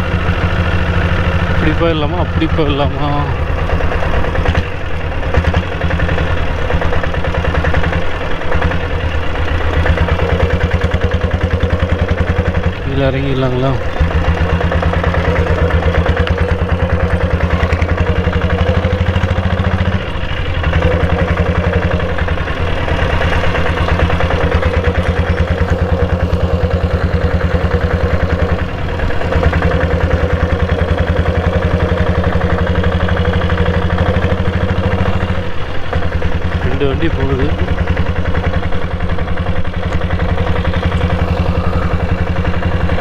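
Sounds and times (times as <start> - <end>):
single-cylinder diesel engine running: 0.0 - 43.0.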